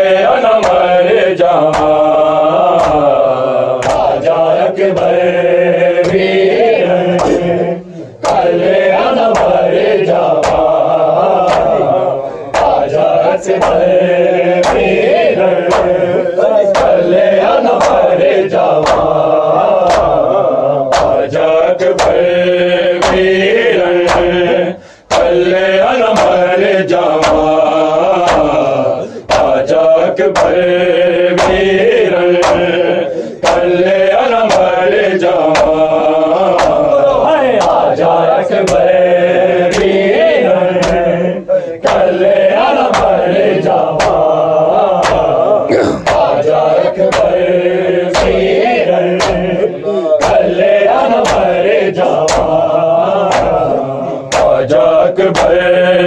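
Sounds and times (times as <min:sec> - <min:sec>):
men chanting a lament: 0:00.0 - 0:56.0.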